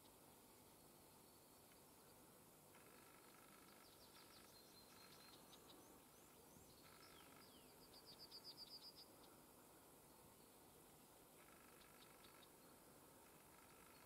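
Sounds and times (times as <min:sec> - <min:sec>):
faint birdsong chirps and trill: 0:00.0 - 0:14.0.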